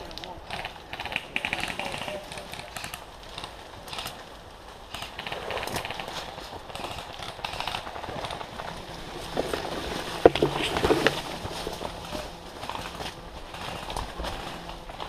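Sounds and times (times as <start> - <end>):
leaves rustling and crackling: 0.0 - 15.0
footsteps through undergrowth: 2.1 - 15.0.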